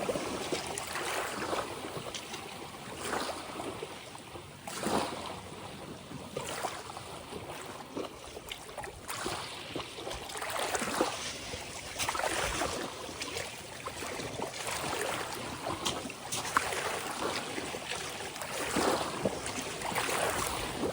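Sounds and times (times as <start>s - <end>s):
ocean waves splashing: 0.0s - 20.9s.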